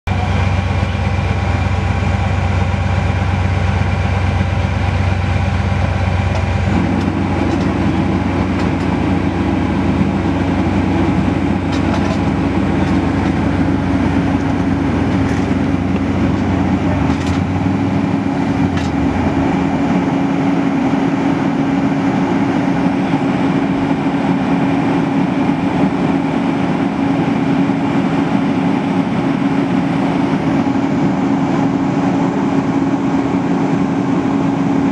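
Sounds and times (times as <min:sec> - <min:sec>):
large vehicle engine droning: 0:00.0 - 0:34.9.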